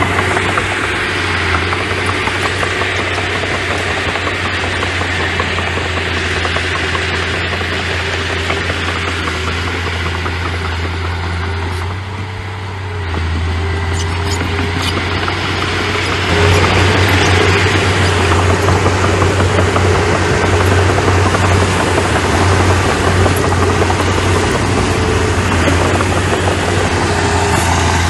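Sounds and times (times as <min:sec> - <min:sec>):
earthmoving machine engine running: 0:00.0 - 0:28.0.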